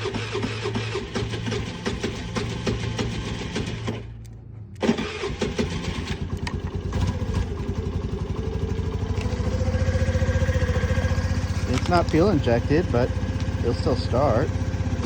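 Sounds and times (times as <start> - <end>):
small engine fast idle: 0.0 - 4.0, 4.8 - 15.0
electric starter cranking: 0.0 - 15.0.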